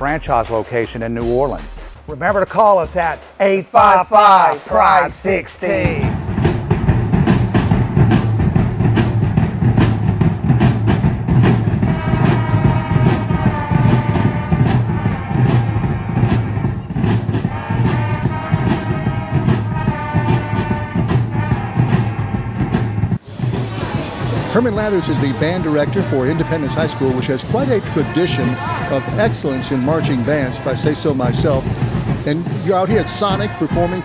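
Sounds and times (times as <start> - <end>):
drumline beat: 0.0 - 34.0
marching band brass: 0.0 - 34.0.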